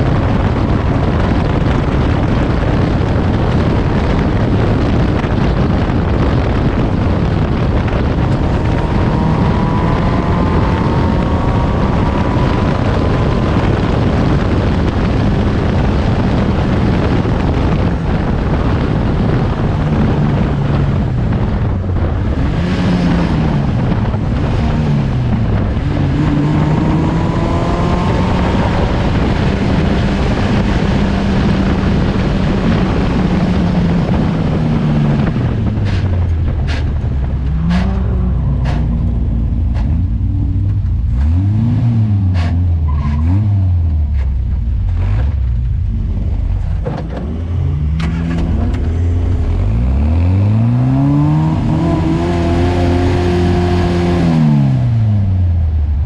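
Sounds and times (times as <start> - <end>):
race car engine: 0.0 - 56.0
wind noise on microphone: 0.0 - 56.0.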